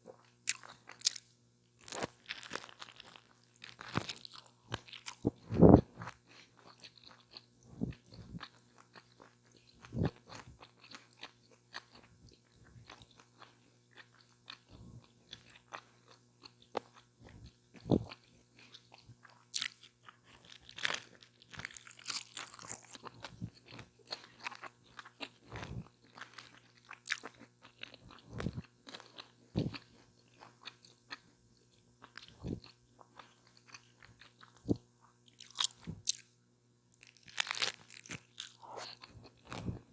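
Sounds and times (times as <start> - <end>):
crunchy bites and chewing: 0.1 - 36.3, 36.9 - 39.9.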